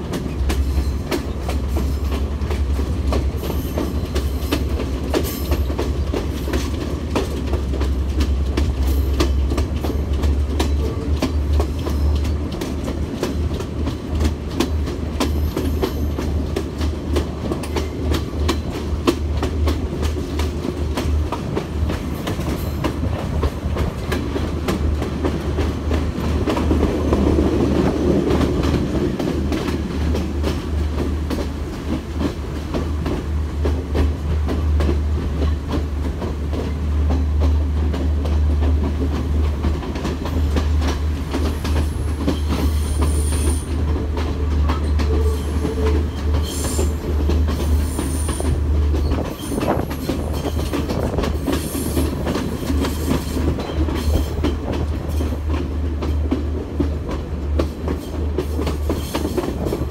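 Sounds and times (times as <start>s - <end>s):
train rumbling: 0.0s - 59.9s
wheels clacking over rail joints: 0.0s - 59.9s.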